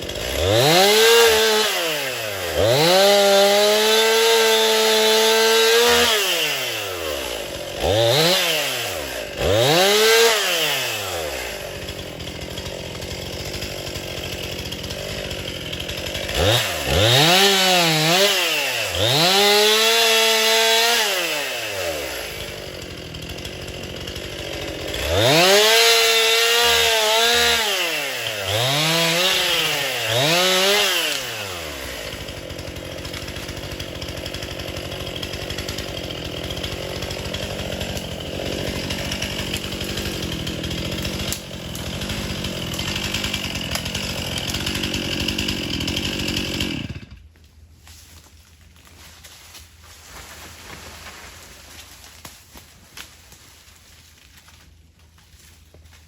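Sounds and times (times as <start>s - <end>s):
chainsaw revving: 0.0s - 47.2s.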